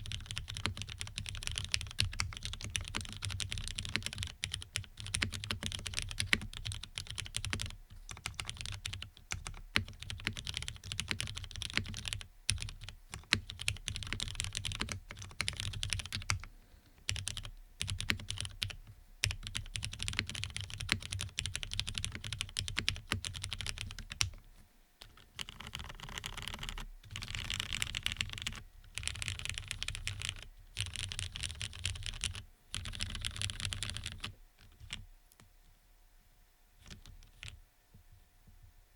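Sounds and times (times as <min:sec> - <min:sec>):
mechanical keyboard typing: 0:00.0 - 0:16.5, 0:17.1 - 0:24.4, 0:25.0 - 0:35.0, 0:36.8 - 0:37.6.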